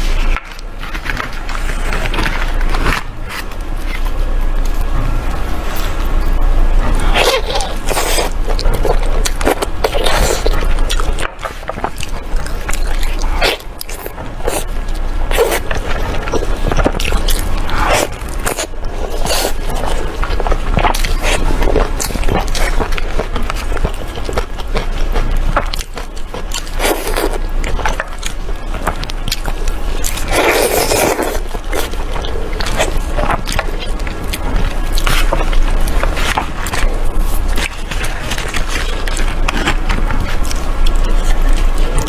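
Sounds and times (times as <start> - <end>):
food being chewed: 0.0 - 42.0.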